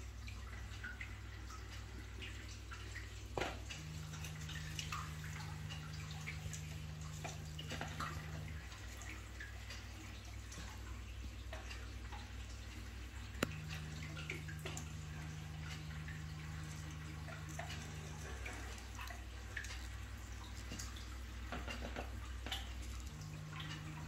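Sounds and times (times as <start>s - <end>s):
second low hum: 0.0s - 24.0s
steady low hum: 0.0s - 24.0s
water dripping and trickling: 0.0s - 24.0s.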